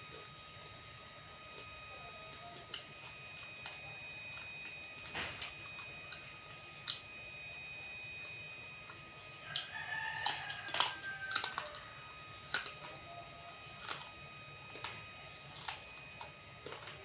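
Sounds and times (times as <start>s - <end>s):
crunchy chewing: 1.5s - 17.0s.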